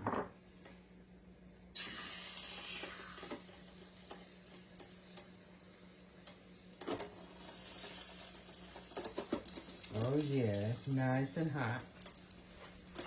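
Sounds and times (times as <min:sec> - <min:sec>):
meat sizzling in hot oil: 0:01.7 - 0:13.0.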